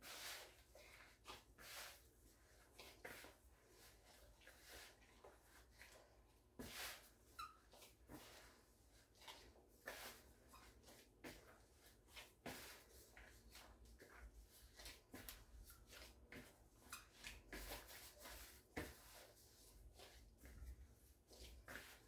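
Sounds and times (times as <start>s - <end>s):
hand kneading dough in a bowl: 0.0s - 22.0s.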